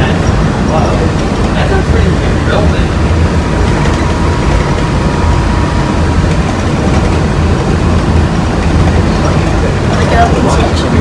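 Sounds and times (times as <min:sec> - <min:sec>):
monorail rumble: 0:00.0 - 0:11.0.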